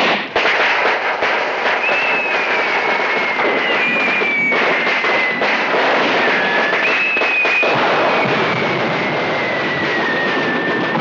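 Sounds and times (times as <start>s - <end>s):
falling firework whistles: 0.0s - 11.0s
fireworks crackling and banging: 0.0s - 11.0s.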